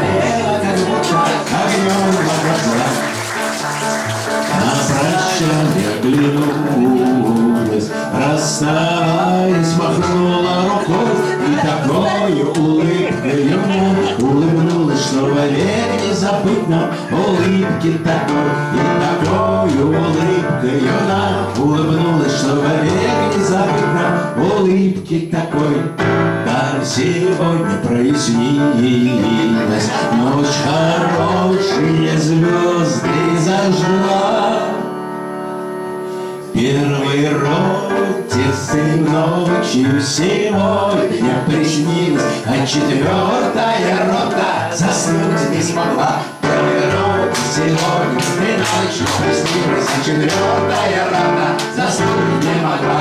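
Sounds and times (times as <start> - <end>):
man singing: 0.0 - 3.2, 4.3 - 35.0, 36.4 - 53.0
electronic keyboard: 0.0 - 53.0.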